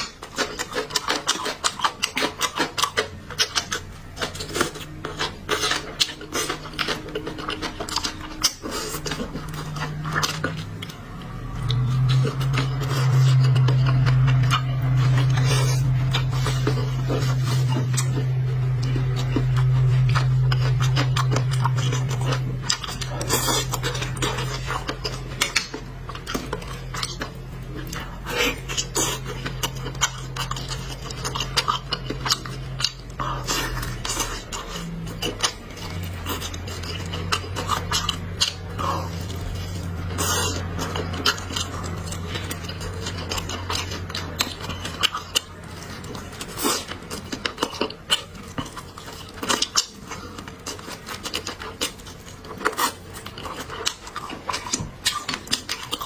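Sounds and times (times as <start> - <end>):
steady low hum: 0.0 - 56.0
utensils clicking and scraping bowls: 0.0 - 56.0.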